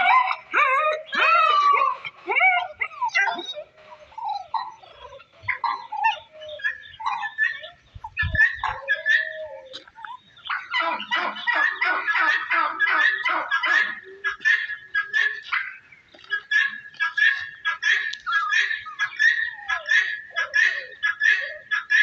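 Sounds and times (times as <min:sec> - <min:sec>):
birds chattering: 0:00.0 - 0:22.0.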